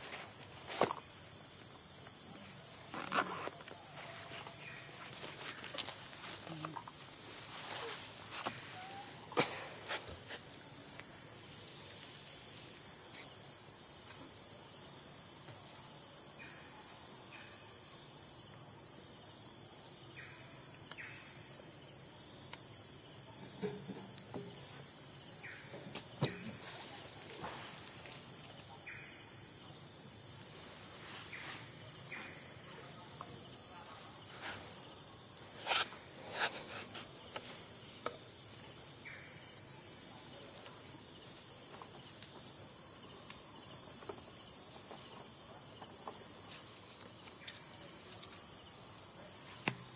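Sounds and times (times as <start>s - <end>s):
insect chorus drone: 0.0s - 49.9s.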